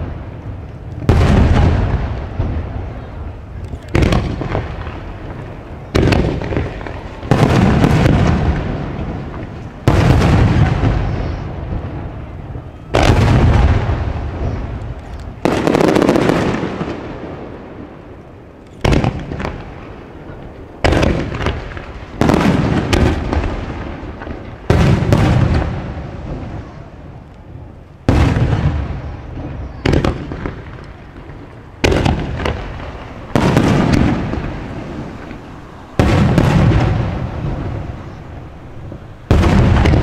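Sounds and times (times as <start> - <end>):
fireworks booming: 0.0 - 40.0.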